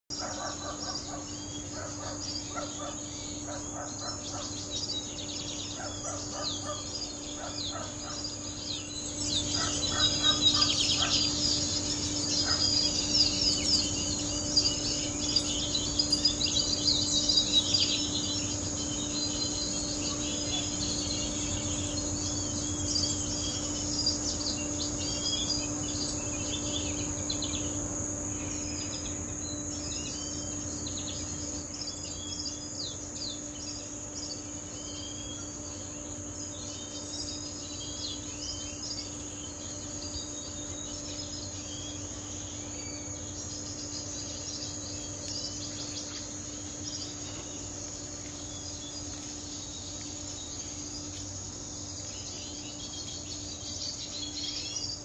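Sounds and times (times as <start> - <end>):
songbirds chirping and trilling: 0.0 - 55.0
high insect drone: 0.1 - 55.0.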